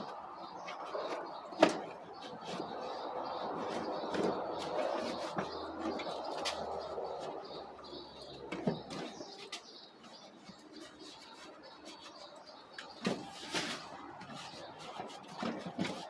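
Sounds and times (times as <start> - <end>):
birds chirping and cooing: 0.0 - 16.0.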